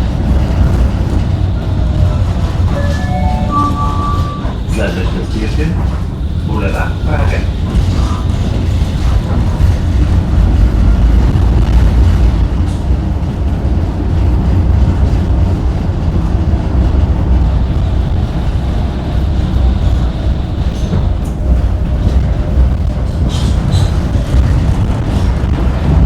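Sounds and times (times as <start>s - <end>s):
tram rumbling on rails: 0.0s - 26.0s.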